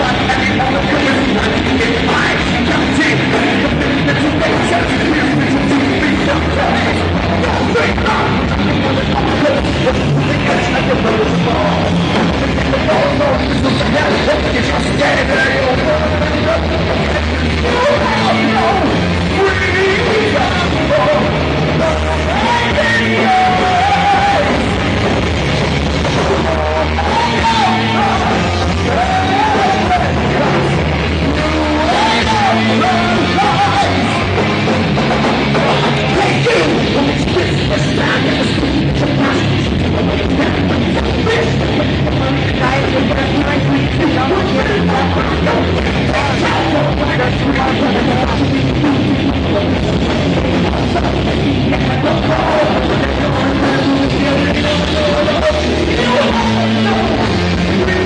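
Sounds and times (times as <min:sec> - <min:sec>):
bass guitar: 0:00.0 - 0:58.0
drums: 0:00.0 - 0:58.0
guitar: 0:00.0 - 0:58.0
person singing and yelling: 0:00.0 - 0:58.0.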